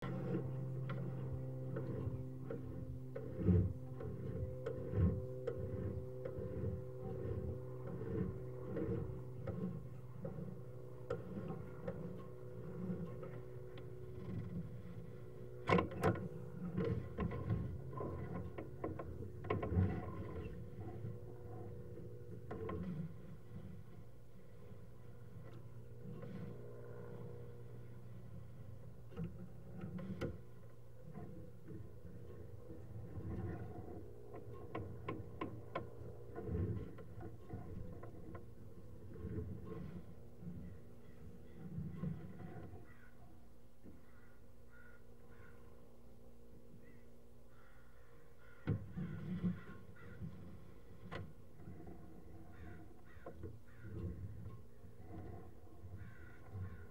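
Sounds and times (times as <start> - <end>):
steady electrical hum: 0.0 - 56.9.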